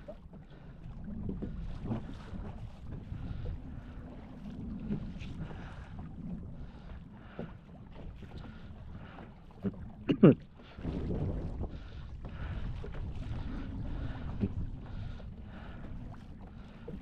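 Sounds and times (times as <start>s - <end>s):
water swishing around canoe: 0.0s - 17.0s
wind rumble on microphone: 0.0s - 17.0s.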